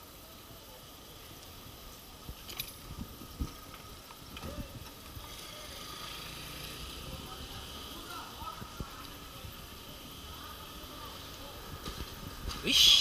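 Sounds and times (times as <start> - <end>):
traffic on wet cobblestones: 0.0 - 13.0.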